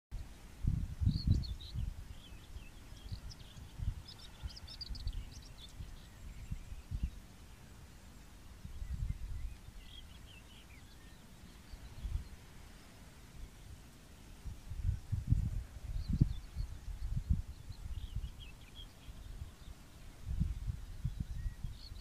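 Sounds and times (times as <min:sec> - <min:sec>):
wind buffeting microphone: 0:00.2 - 0:07.8, 0:08.4 - 0:22.0.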